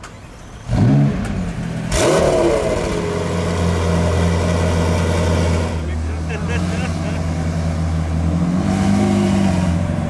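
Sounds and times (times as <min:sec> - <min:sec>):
car engine revving: 0:00.6 - 0:10.0.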